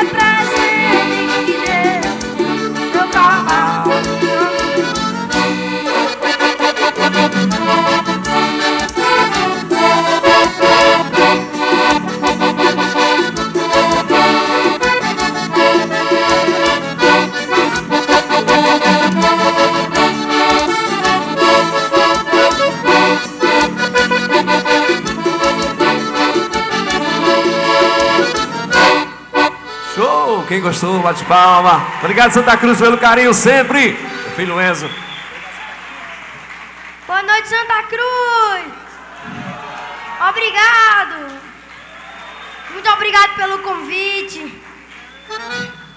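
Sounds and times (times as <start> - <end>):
accordions playing fast tune: 0.0 - 35.9, 42.2 - 45.9.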